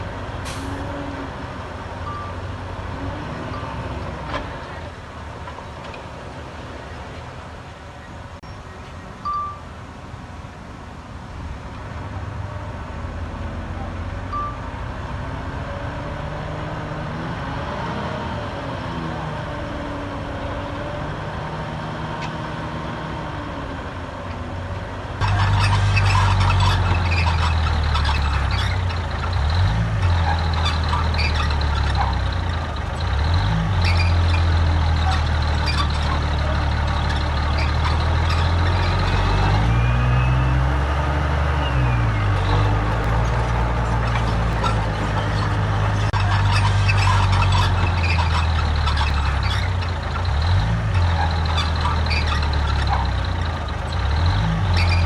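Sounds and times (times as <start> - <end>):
diesel construction machinery engines: 0.0 - 55.0.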